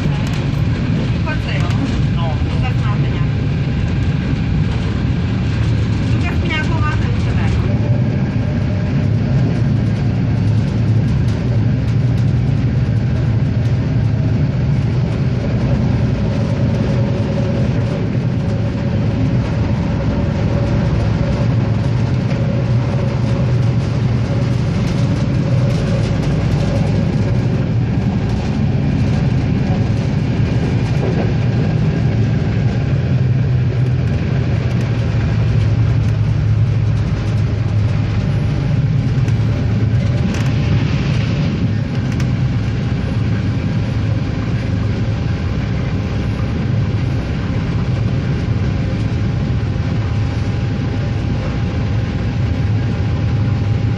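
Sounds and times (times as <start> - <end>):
railcar engine drone: 0.0 - 53.9.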